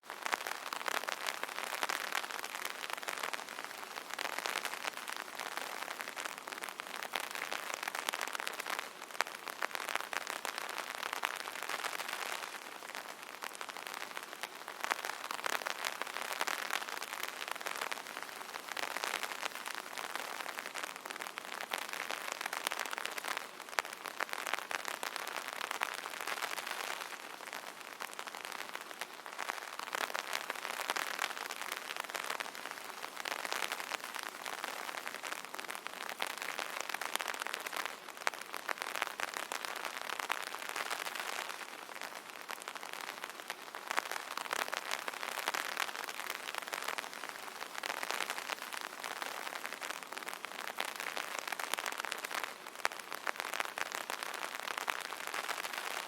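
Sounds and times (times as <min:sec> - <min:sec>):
rain on an umbrella: 0:00.0 - 0:56.0.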